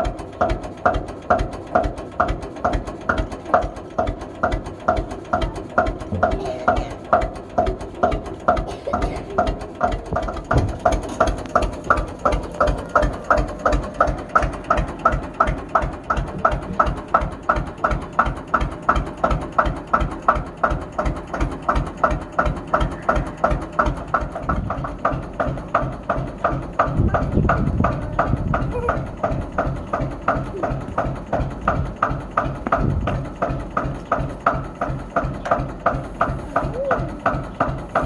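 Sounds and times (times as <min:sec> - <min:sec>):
tractor engine slow beat: 0:00.0 - 0:38.0.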